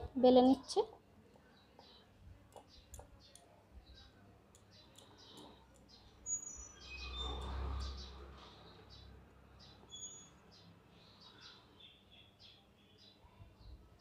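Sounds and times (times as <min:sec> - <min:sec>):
small birds chirping: 0:00.2 - 0:14.0.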